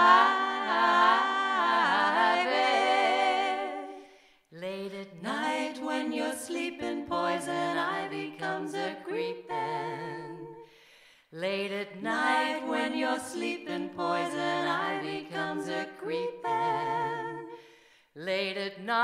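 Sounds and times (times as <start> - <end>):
women singing in close harmony: 0.0 - 10.7, 11.4 - 19.0.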